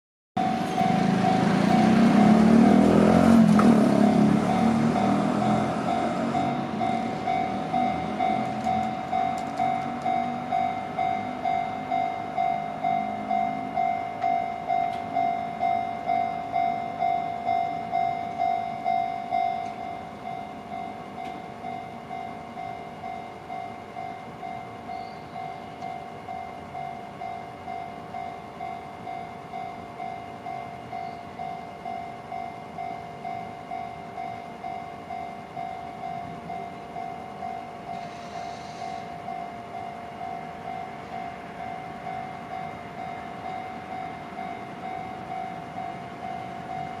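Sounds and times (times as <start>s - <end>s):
level-crossing alarm ringing: 0.4s - 47.0s
low steady drone: 0.4s - 47.0s
train passing: 0.4s - 47.0s.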